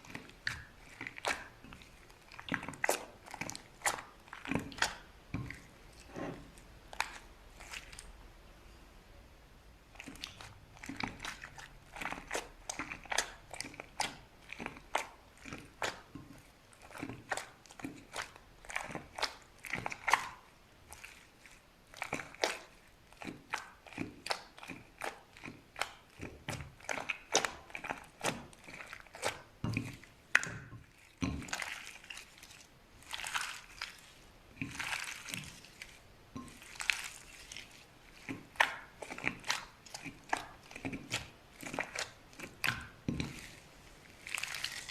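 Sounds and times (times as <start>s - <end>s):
slime squelching: 0.0s - 8.7s, 9.8s - 44.9s.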